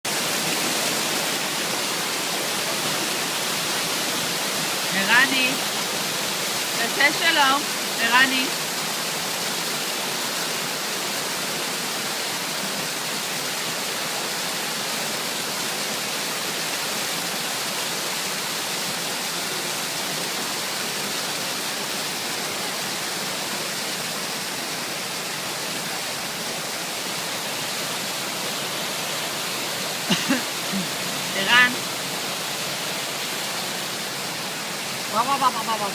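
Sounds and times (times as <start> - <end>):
water fountain splashing: 0.0 - 35.9.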